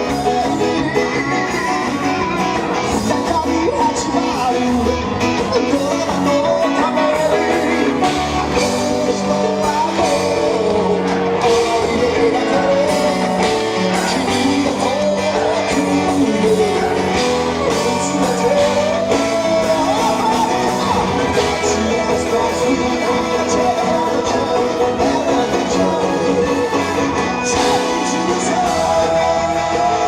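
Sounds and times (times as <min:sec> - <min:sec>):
drums: 0:00.0 - 0:30.0
electric guitar: 0:00.0 - 0:30.0
person singing: 0:00.0 - 0:30.0.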